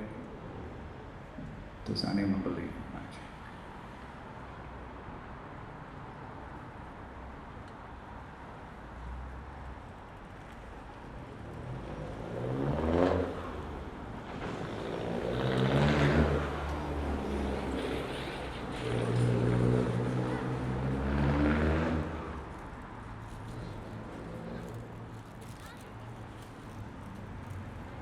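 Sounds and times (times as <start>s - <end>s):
vehicles passing on road: 0.0s - 28.0s.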